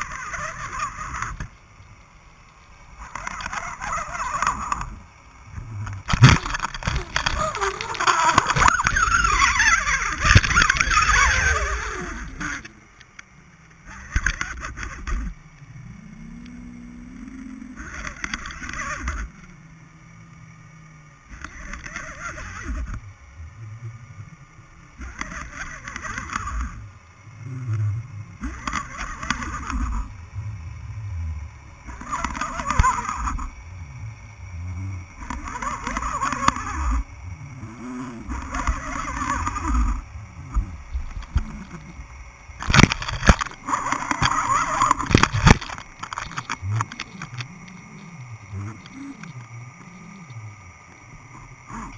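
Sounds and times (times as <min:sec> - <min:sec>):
hissing water surges: 0:00.0 - 0:51.9
low wavering hum: 0:00.0 - 0:51.9.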